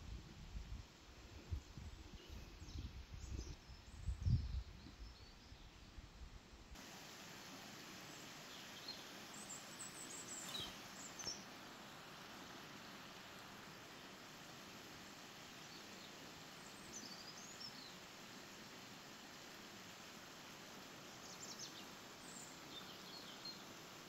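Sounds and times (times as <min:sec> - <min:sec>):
steady quiet hiss: 0:00.0 - 0:24.0.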